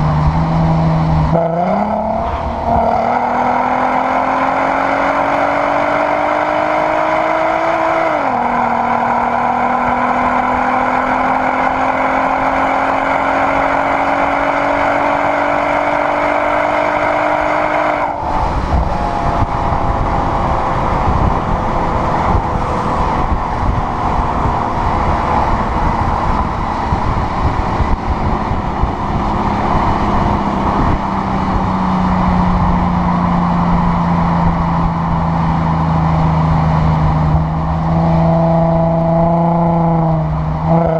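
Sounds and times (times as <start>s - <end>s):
exhaust rumble: 0.0s - 4.4s, 7.6s - 40.9s
car engine pulling hard: 0.0s - 40.9s.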